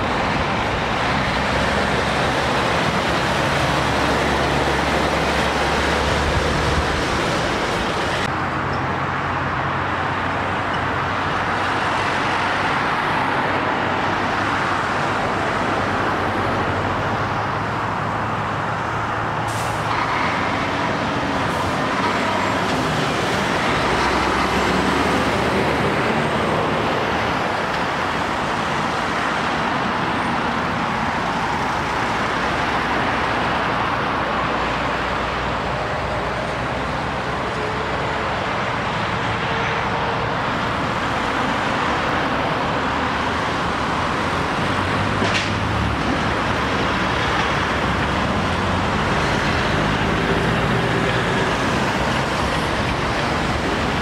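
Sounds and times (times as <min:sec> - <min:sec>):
car tyres on road: 0:00.0 - 0:54.0
lorry diesel engines: 0:00.0 - 0:54.0.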